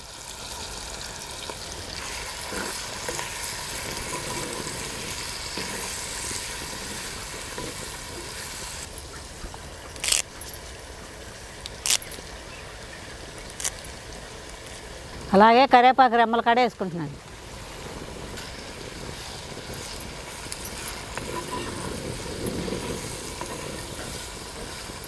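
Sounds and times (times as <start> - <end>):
onions sizzling in hot oil: 0.0 - 15.9, 16.7 - 25.0.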